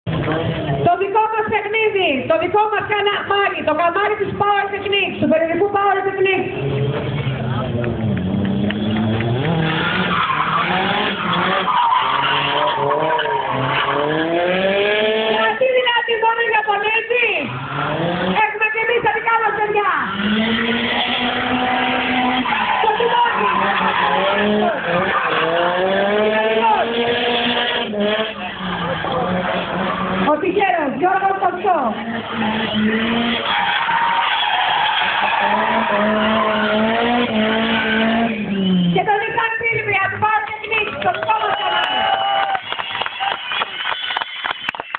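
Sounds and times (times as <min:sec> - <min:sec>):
car engine revving: 0:00.0 - 0:01.2, 0:02.3 - 0:44.6
tyres squealing: 0:08.6 - 0:44.7.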